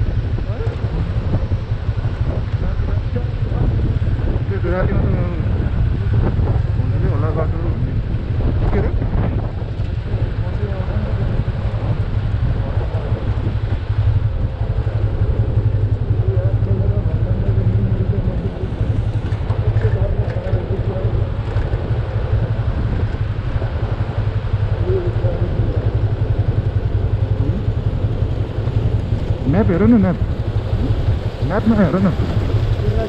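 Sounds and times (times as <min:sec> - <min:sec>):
motorcycle engine droning: 0:00.0 - 0:33.0
road noise: 0:00.0 - 0:33.0.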